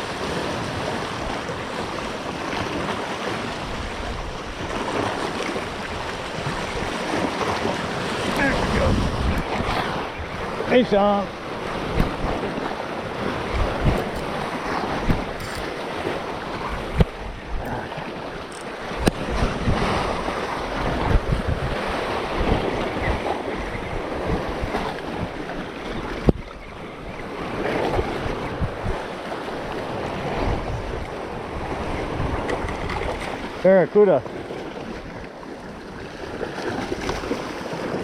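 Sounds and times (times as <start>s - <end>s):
wind buffeting microphone: 0.0s - 33.6s
sea waves washing: 0.0s - 38.0s.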